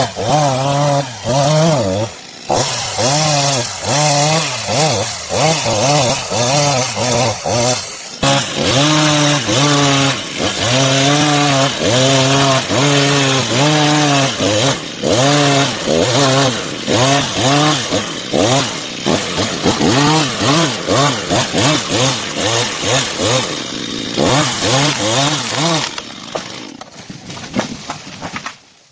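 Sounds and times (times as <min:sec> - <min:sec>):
chainsaw engine revving: 0:00.0 - 0:26.8.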